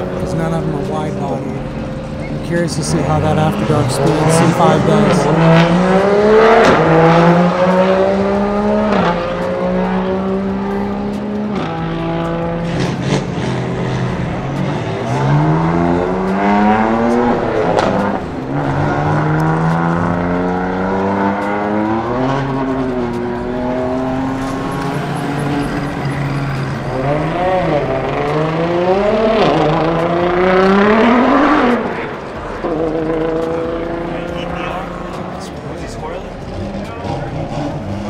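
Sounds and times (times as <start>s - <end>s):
race car engines accelerating: 0.0s - 38.0s.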